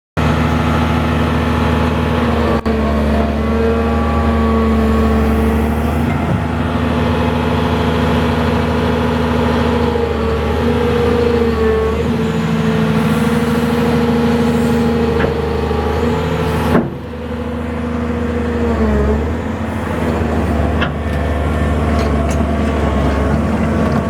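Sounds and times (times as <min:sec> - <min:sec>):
excavator diesel engine running: 0:00.2 - 0:24.0.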